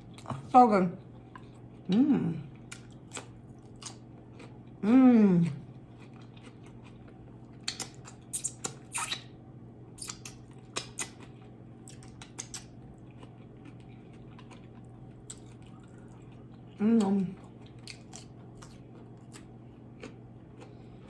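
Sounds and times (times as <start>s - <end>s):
steady low hum: 0.0s - 21.0s
wet chewing and lip-smacking: 2.5s - 4.8s, 5.4s - 9.3s, 10.0s - 21.0s.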